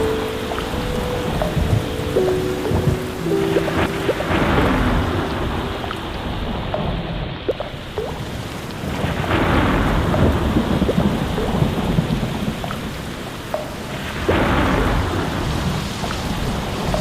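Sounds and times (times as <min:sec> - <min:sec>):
heavy rain: 0:00.0 - 0:17.0
thunder rumbling: 0:00.0 - 0:17.0.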